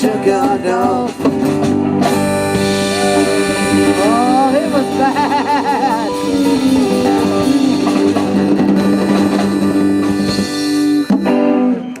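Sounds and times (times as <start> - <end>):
drums: 0.0 - 12.0
live band playing: 0.0 - 12.0.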